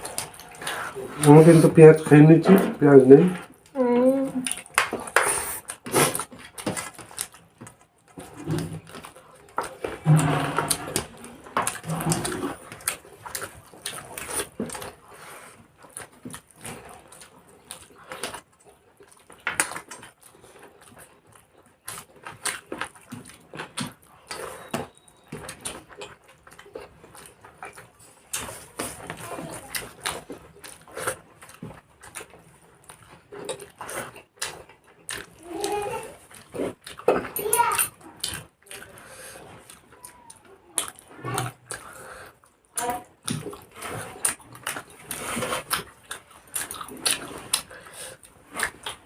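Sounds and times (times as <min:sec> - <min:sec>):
person chewing and lip-smacking: 0:00.0 - 0:01.8, 0:03.4 - 0:49.0.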